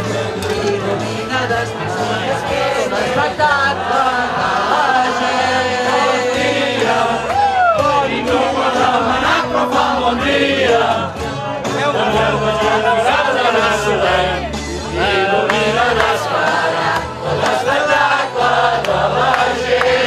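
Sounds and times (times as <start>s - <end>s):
crowd noise: 0.0s - 20.0s
group singing in chorus: 0.0s - 20.0s.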